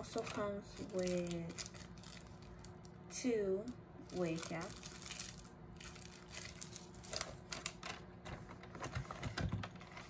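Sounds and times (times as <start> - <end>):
plastic packaging crinkling: 0.0 - 3.0, 4.0 - 10.0.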